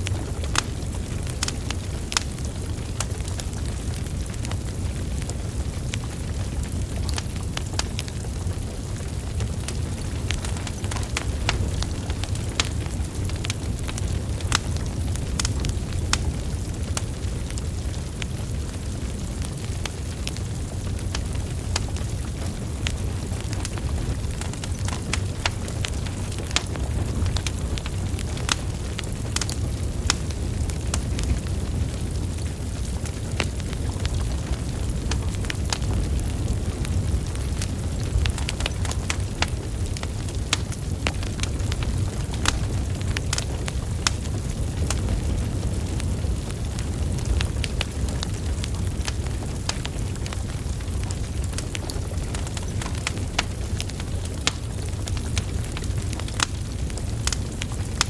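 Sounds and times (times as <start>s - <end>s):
logs crackling and popping: 0.0s - 58.0s
low rumble of flames: 0.0s - 58.0s.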